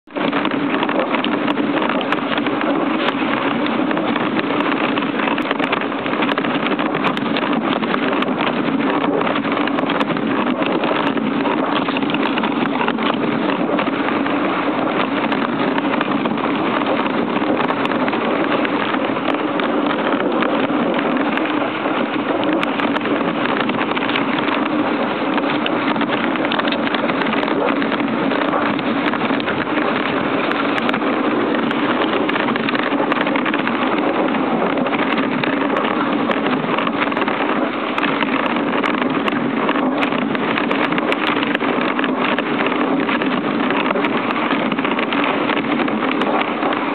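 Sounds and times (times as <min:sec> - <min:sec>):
wind on microphone: 0:00.0 - 0:46.9.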